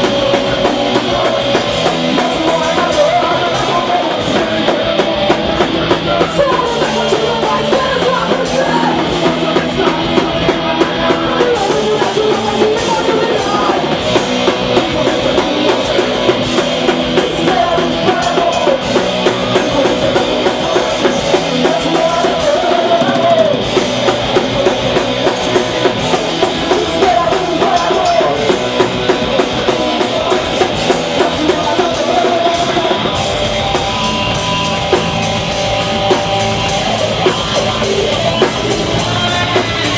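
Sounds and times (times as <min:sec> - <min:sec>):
fast drum kit: 0:00.0 - 0:39.9
punk band playing live: 0:00.0 - 0:39.9.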